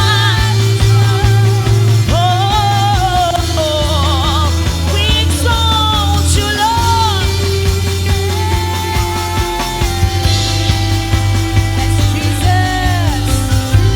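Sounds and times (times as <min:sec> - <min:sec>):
worship band playing: 0:00.0 - 0:13.9.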